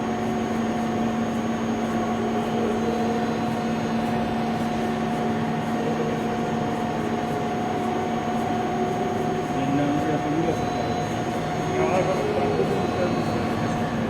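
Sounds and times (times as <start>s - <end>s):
lathe machine hum: 0.0s - 14.0s.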